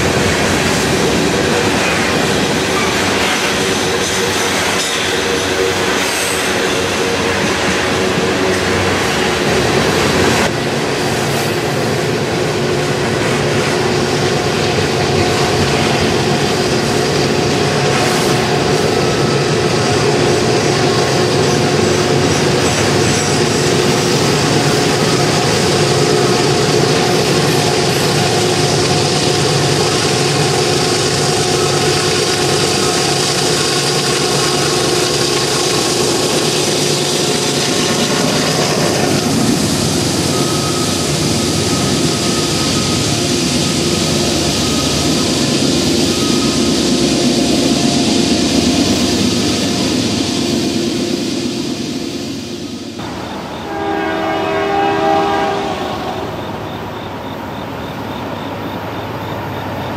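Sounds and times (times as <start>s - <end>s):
diesel locomotive engine working hard: 0.0s - 59.9s
train cars rumbling on rails: 0.0s - 59.9s.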